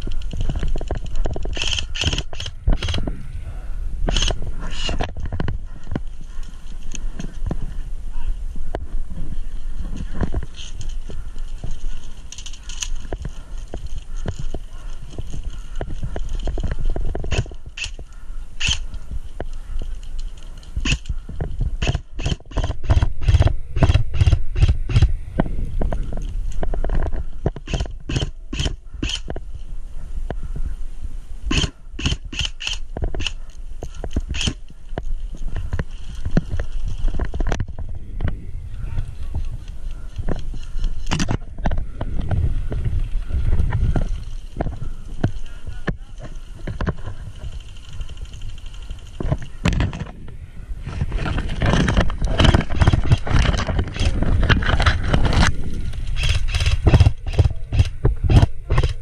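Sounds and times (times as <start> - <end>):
rustling through dry brush: 0.0 - 59.0.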